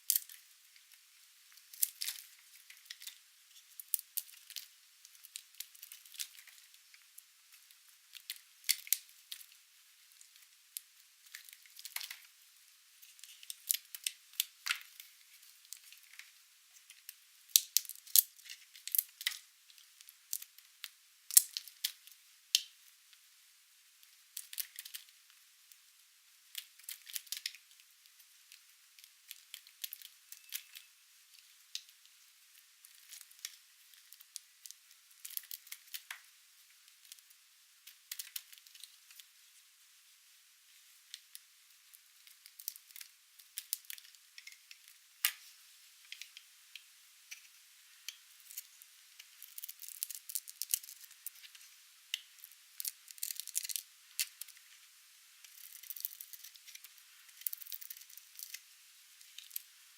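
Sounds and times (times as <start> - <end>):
brittle soap crackling under blade: 0.0 - 1.0, 1.6 - 9.6, 10.2 - 12.3, 13.0 - 22.8, 24.4 - 25.1, 26.5 - 32.2, 32.8 - 36.3, 36.9 - 39.3, 41.1 - 45.4, 46.1 - 54.8, 55.4 - 59.7.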